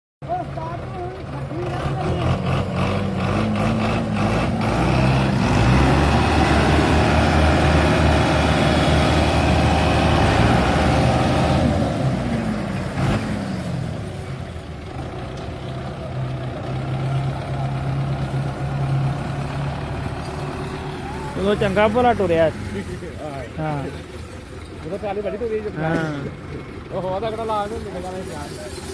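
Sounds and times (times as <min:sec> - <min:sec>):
tractor diesel engine running: 0:00.2 - 0:28.9.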